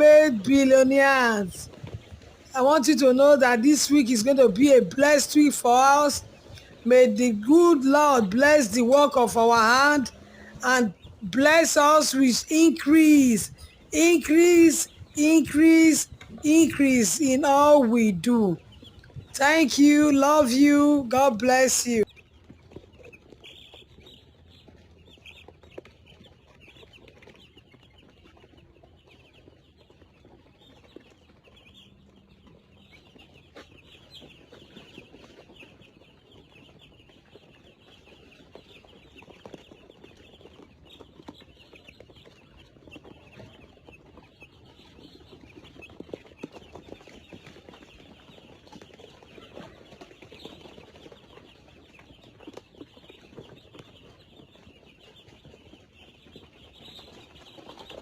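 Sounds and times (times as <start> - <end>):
poultry clucking and chirping: 0.0 - 58.0.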